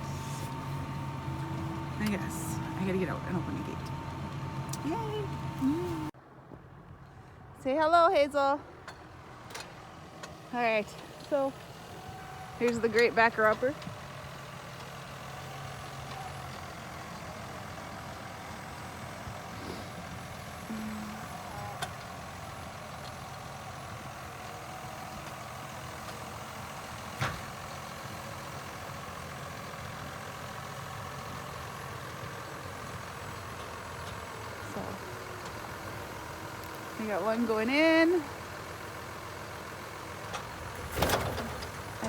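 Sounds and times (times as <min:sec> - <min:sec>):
tractor engine running: 0:00.0 - 0:06.2, 0:08.7 - 0:42.0.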